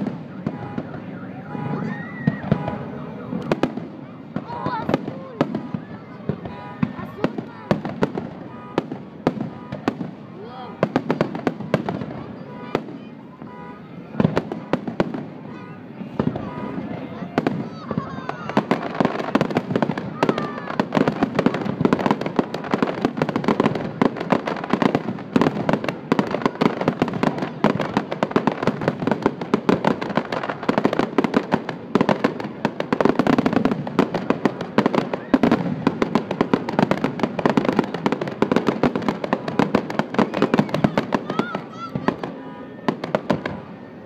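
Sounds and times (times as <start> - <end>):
fireworks bursting and crackling: 0.0 - 44.0.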